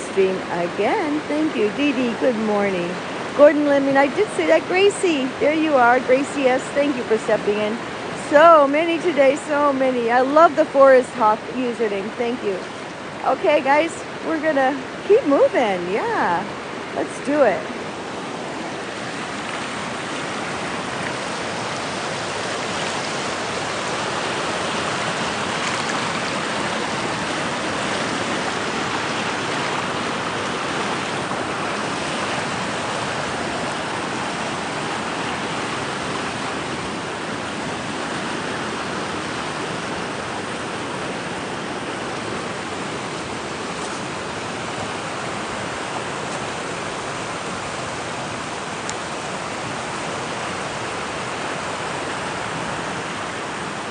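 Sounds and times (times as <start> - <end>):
river rushing: 0.0 - 53.9.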